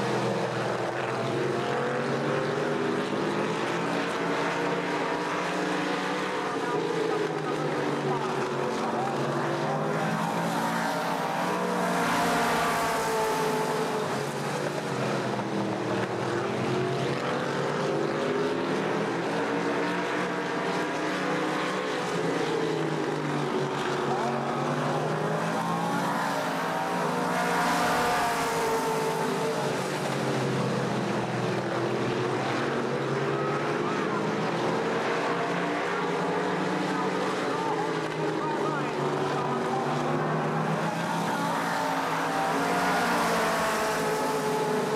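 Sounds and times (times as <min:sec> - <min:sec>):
stock car engines racing: 0:00.0 - 0:44.9.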